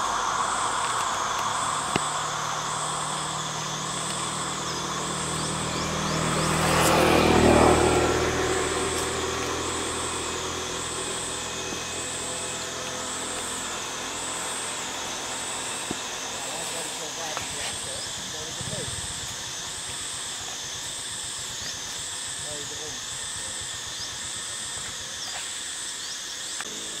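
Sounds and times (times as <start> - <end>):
motor vehicle passing by: 0.0 - 25.4
high insect drone: 0.0 - 27.0.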